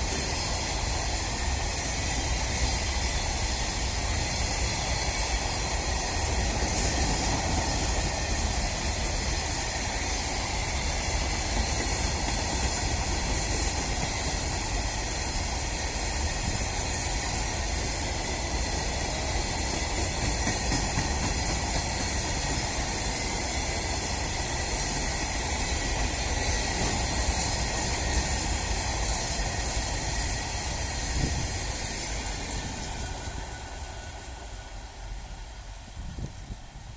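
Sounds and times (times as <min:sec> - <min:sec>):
freight train rolling past: 0:00.0 - 0:36.9.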